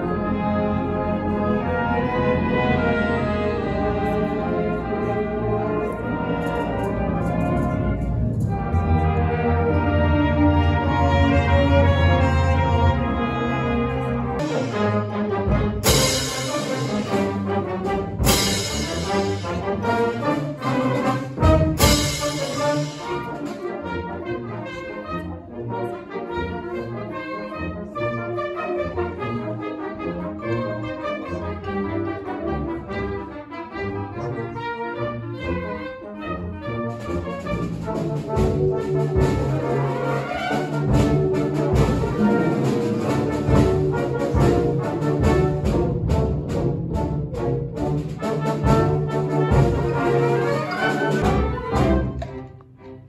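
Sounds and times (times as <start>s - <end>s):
orchestra playing held chords: 0.0s - 53.0s.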